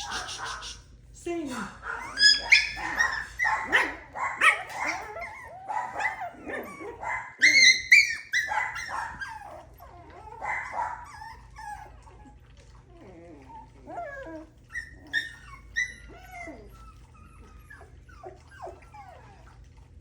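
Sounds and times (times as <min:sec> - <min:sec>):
puppies barking and yipping: 0:00.0 - 0:00.9, 0:01.8 - 0:20.0.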